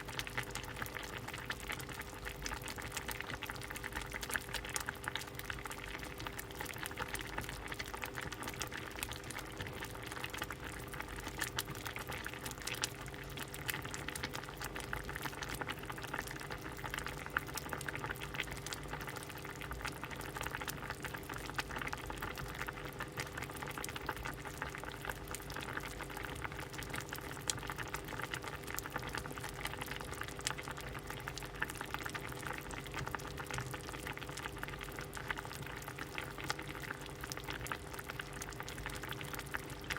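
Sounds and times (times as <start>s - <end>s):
soup boiling and bubbling: 0.0s - 39.9s.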